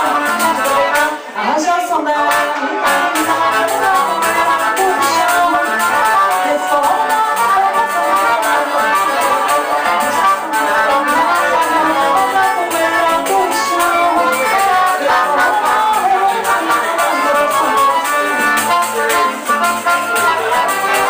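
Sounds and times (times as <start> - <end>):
hand percussion: 0.0 - 1.2, 2.3 - 21.0
accordion melody: 0.0 - 21.0
guitar: 0.0 - 21.0.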